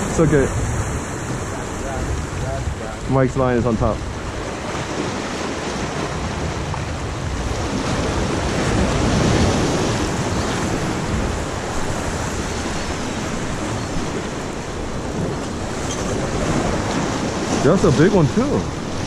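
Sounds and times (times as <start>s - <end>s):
surf breaking against rocks: 0.0s - 19.0s
wind buffeting microphone: 0.0s - 19.0s.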